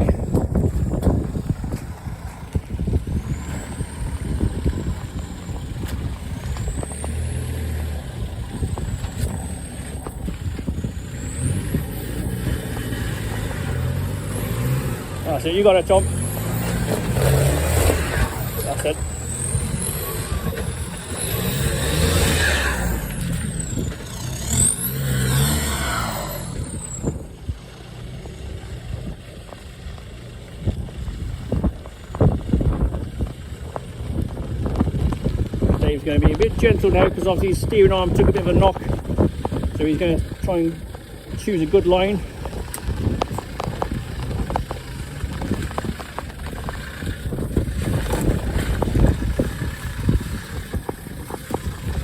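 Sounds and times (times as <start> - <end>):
off-road vehicle engine: 0.0 - 52.0.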